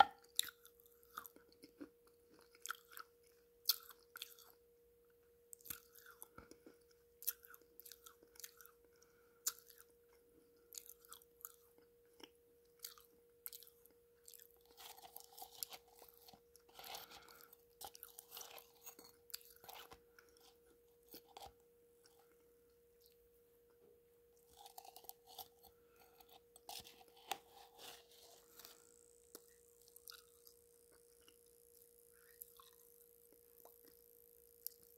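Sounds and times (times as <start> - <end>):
person chewing thick paste: 0.0 - 4.6, 5.5 - 23.3, 24.4 - 34.9
faint steady hum: 0.0 - 34.9.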